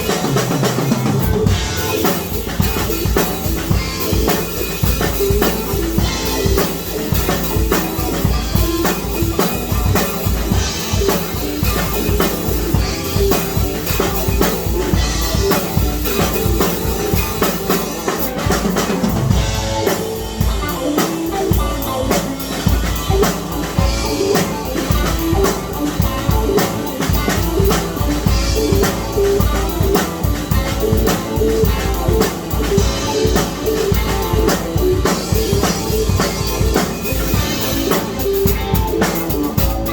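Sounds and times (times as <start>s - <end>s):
drum kit playing a busy beat: 0.0s - 39.9s.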